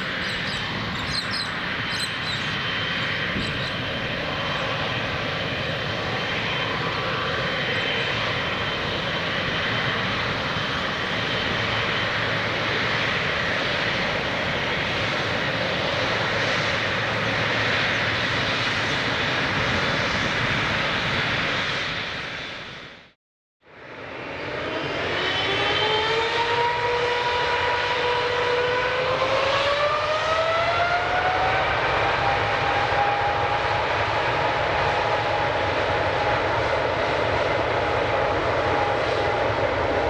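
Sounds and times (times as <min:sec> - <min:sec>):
jet engines roaring: 0:00.0 - 0:23.1, 0:23.9 - 0:40.0.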